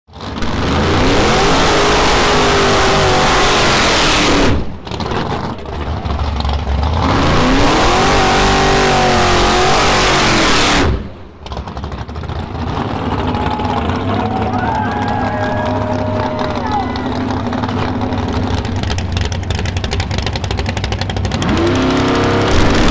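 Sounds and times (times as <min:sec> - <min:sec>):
race car engine at full throttle: 0:00.1 - 0:22.9.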